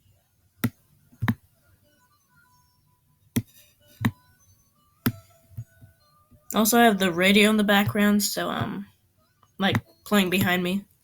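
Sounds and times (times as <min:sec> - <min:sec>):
faint radio music: 0:00.0 - 0:11.0.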